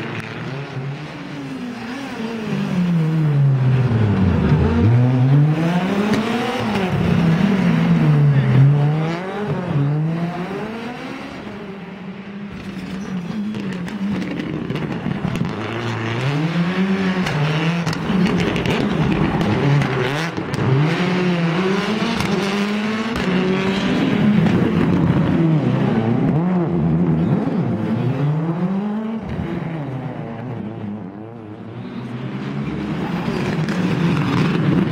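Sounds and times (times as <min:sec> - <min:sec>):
rally car engine revving: 0:00.0 - 0:11.8, 0:12.5 - 0:34.9.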